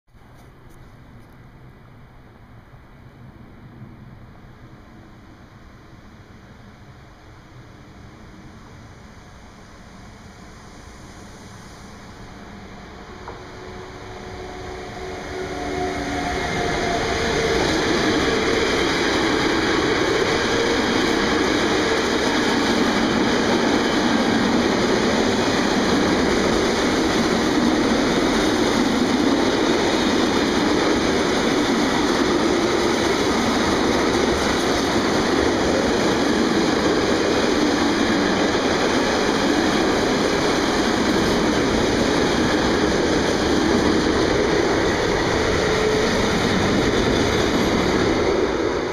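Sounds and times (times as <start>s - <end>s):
train wheels rolling on rails: 0.1s - 48.9s
electric locomotive whine: 0.2s - 48.9s.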